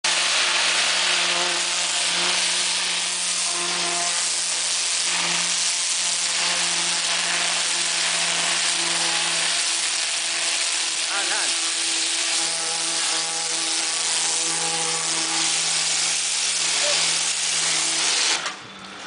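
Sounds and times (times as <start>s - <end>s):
high-pressure water jet hissing: 0.0s - 18.5s
pressure washer machine hum: 0.0s - 19.0s.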